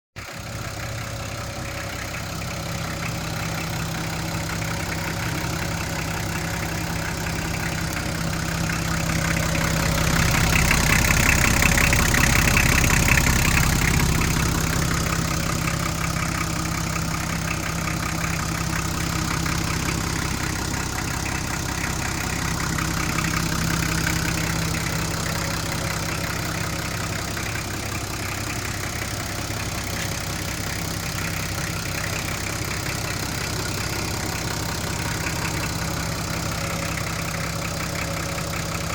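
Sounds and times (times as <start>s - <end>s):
diesel engine idling: 0.2s - 38.9s.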